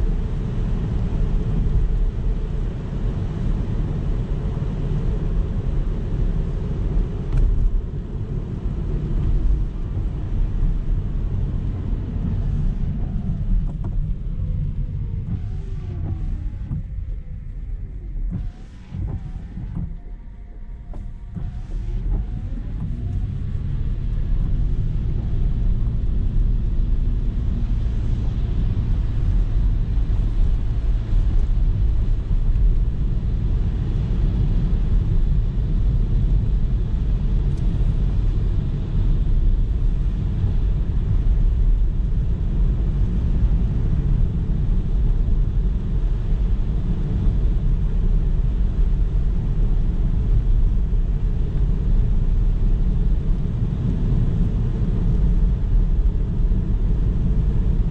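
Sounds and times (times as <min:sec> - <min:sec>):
car driving on road: 0:00.0 - 0:57.9.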